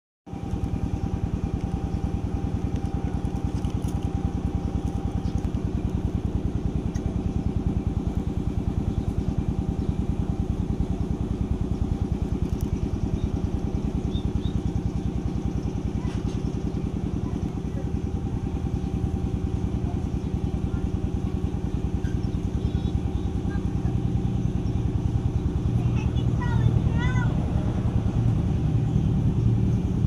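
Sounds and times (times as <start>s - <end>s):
engine running steadily: 0.3s - 30.0s.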